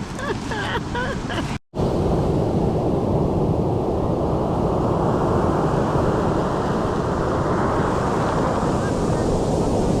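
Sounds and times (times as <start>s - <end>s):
ocean surf rushing: 0.0s - 10.0s
wind on microphone: 0.0s - 10.0s.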